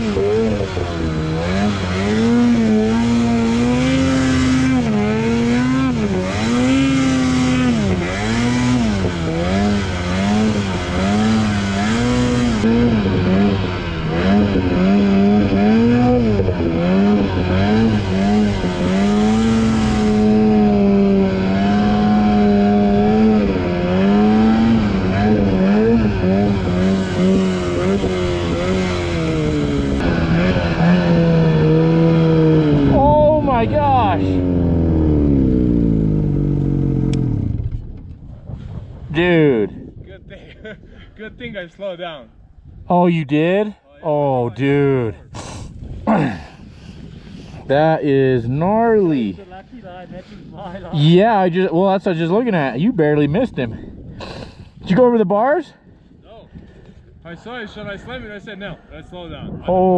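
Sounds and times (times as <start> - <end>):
snowmobile engine revving: 0.0 - 37.9, 42.9 - 46.7, 47.3 - 55.6.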